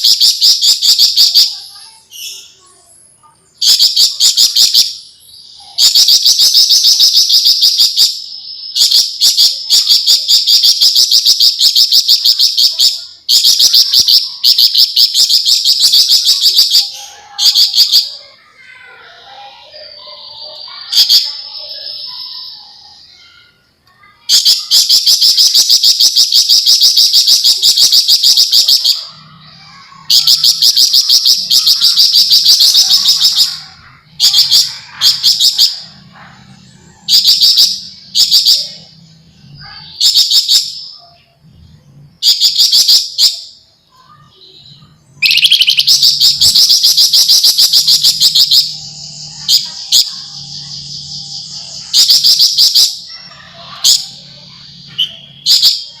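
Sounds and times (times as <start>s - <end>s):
bird singing rattling trills: 0.0s - 56.0s.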